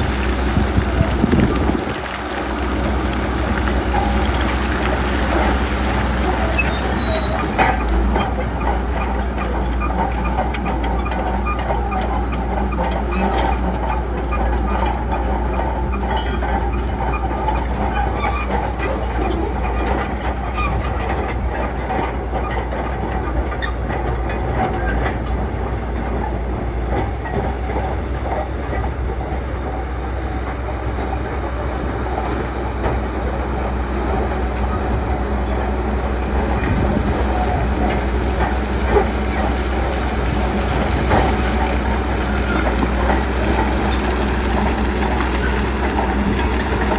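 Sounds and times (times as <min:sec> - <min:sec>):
bulldozer diesel engine running: 0:00.0 - 0:46.9
steel tracks clanking: 0:00.0 - 0:46.9.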